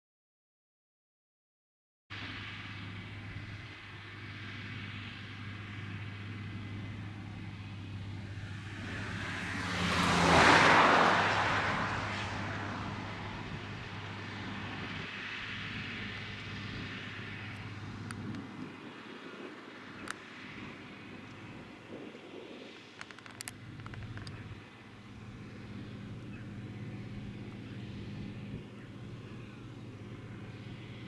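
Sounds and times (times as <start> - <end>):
tractor engine passing by: 2.1 - 31.0.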